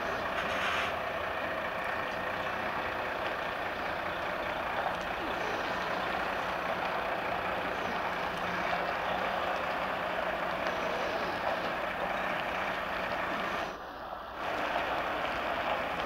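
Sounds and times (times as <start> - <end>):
lorry diesel engine running: 0.0 - 16.0.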